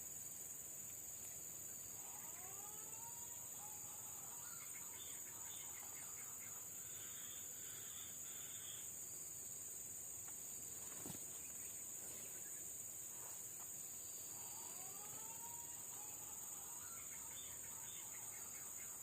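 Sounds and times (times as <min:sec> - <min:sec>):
high-pitched insect chorus: 0:00.0 - 0:19.0
faint bird calls: 0:01.2 - 0:09.0, 0:10.7 - 0:19.0.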